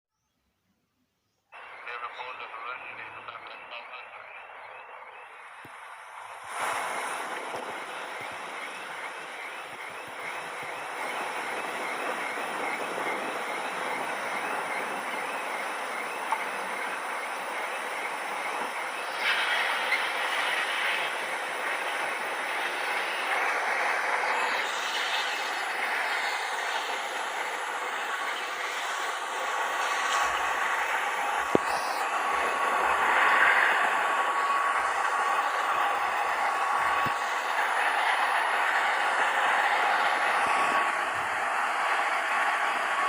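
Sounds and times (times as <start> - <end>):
airplane engine roar: 1.6 - 43.0
airplane wheels rolling: 5.3 - 42.9.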